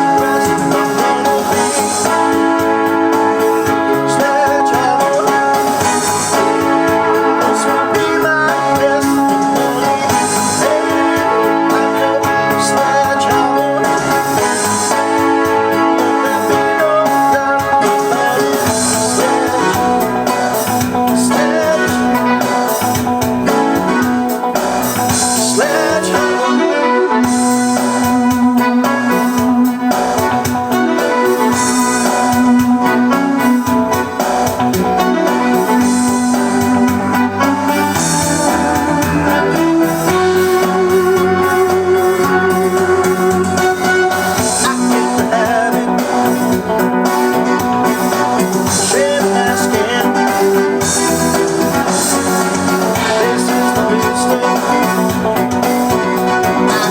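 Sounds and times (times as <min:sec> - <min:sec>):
backing track: 0:00.0 - 0:56.9
drums: 0:00.0 - 0:56.9
piano playing: 0:00.0 - 0:56.9.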